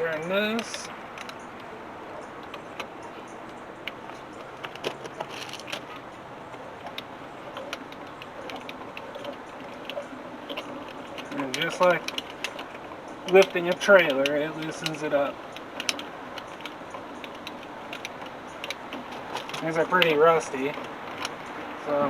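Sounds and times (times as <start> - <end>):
metallic clicks and rattles: 0.0 - 22.0
steady background hiss: 0.0 - 22.0.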